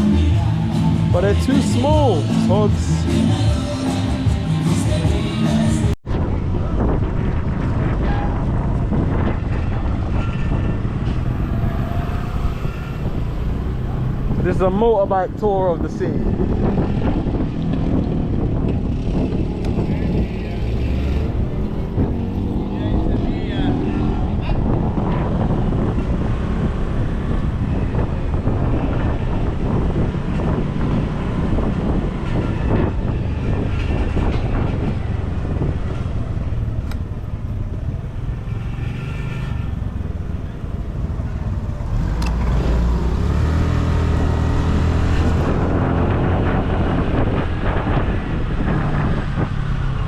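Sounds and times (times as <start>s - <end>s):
road and wind noise: 0.0s - 50.0s.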